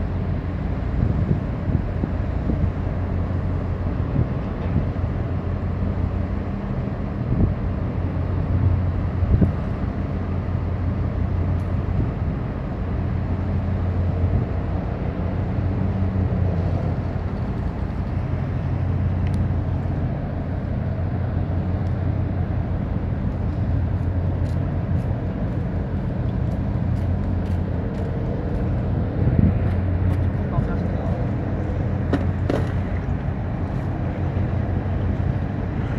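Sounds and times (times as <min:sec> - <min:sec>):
large engine droning: 0:00.0 - 0:35.9.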